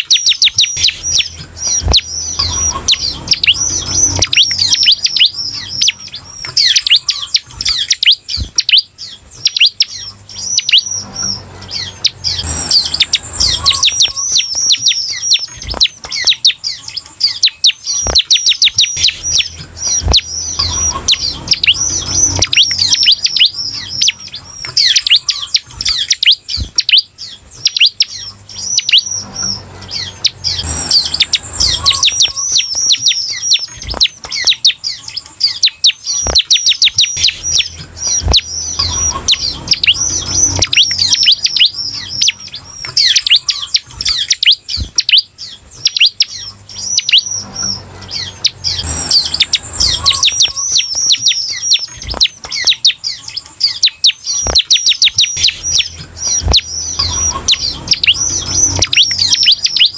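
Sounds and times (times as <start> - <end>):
bird singing sharp chirps: 0.0 - 59.9.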